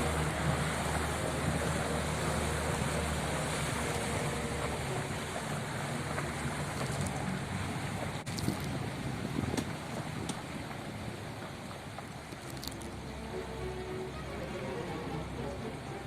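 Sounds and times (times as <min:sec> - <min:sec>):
wind on microphone: 0:00.0 - 0:14.2
boat engine humming: 0:00.0 - 0:16.0
rushing water: 0:00.0 - 0:16.0.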